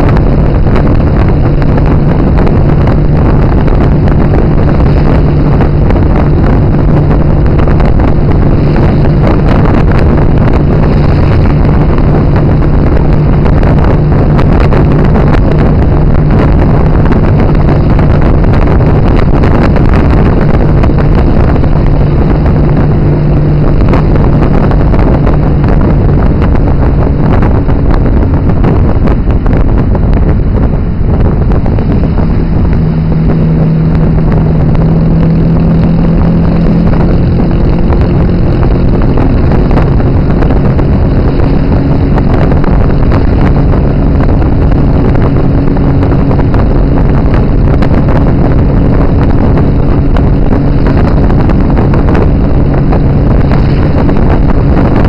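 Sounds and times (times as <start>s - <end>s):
road noise: 0.0s - 55.0s
tuk-tuk engine running: 0.0s - 55.0s
wind buffeting microphone: 0.0s - 55.0s.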